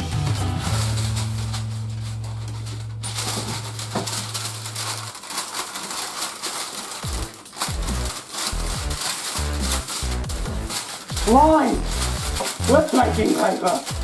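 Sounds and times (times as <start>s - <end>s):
baking paper crinkling: 0.1s - 14.0s.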